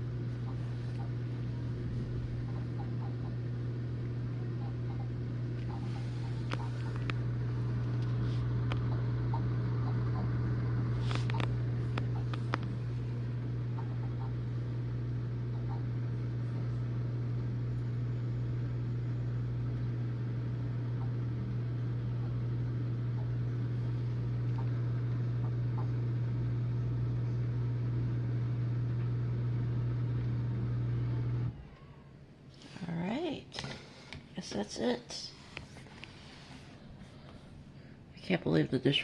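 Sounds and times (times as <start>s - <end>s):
dishwasher drain pump humming: 0.0s - 32.8s.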